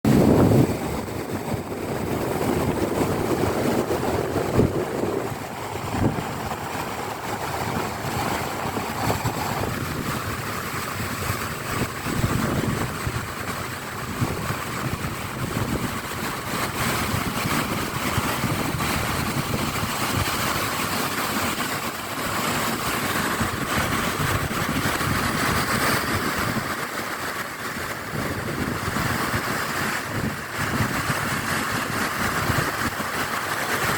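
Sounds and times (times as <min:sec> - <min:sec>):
wind buffeting microphone: 0:00.0 - 0:33.9
waves breaking on rocks: 0:00.1 - 0:33.9.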